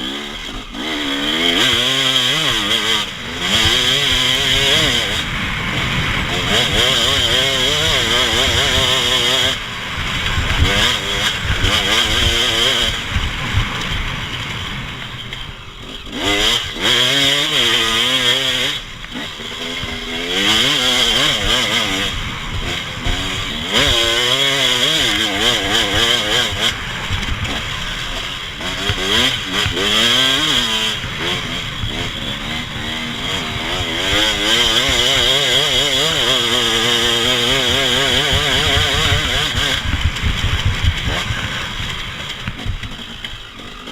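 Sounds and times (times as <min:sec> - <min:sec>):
off-road vehicle engine revving: 0:00.0 - 0:43.9.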